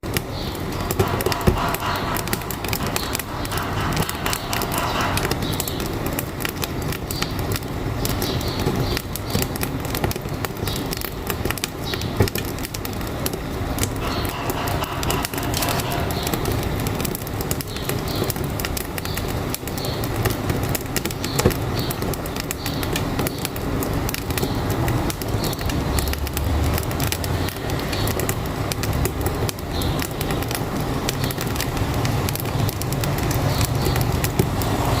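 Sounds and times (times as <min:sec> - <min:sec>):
truck engine rumbling: 0:00.0 - 0:35.0
wood fire crackling: 0:00.0 - 0:35.0.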